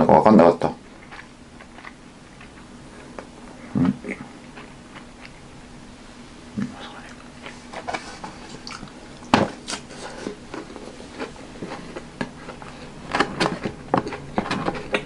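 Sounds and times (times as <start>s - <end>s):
chewing: 0.8s - 5.5s, 6.6s - 15.0s.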